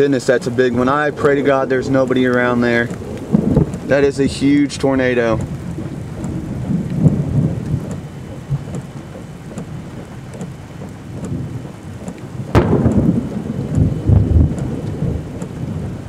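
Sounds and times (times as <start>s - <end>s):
thunder crack: 0.0s - 10.0s, 10.8s - 16.0s
rain: 0.0s - 16.0s
thunder rumble: 0.0s - 16.0s.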